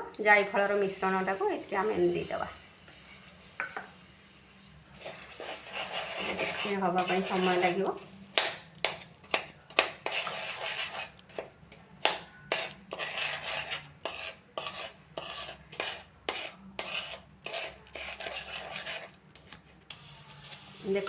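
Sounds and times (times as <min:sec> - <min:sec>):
spoon scraping and knocking pan: 0:02.8 - 0:21.0.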